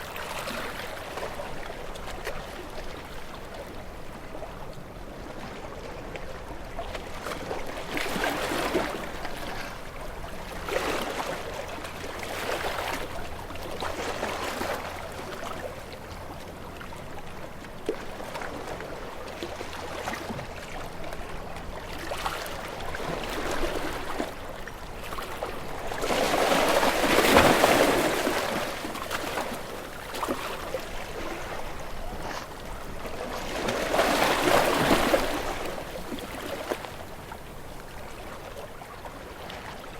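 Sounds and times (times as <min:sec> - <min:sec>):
ocean waves: 0:00.0 - 0:39.9.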